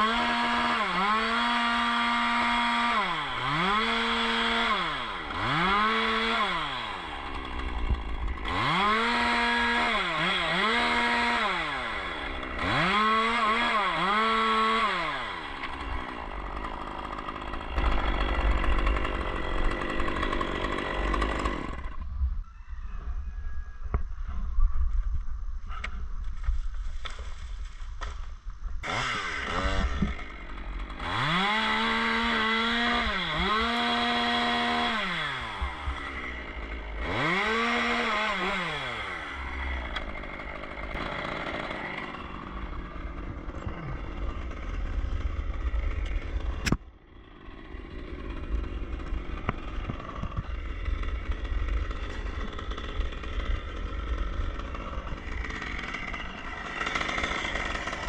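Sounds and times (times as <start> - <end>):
chainsaw revving: 0.0 - 22.0, 28.8 - 58.0.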